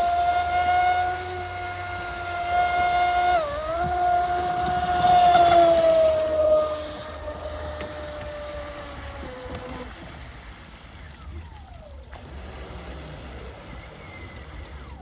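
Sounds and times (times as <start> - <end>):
electric boat motor whine: 0.0 - 15.0.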